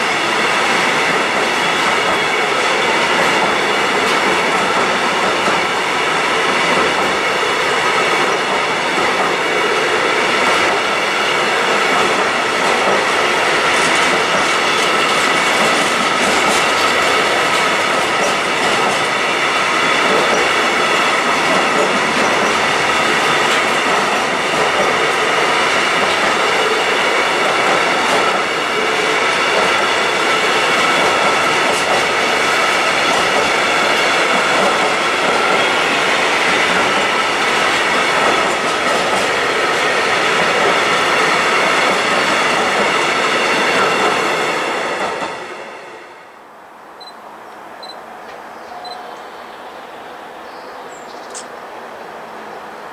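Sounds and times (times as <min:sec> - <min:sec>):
train wheels rumbling on rails: 0:00.0 - 0:46.2.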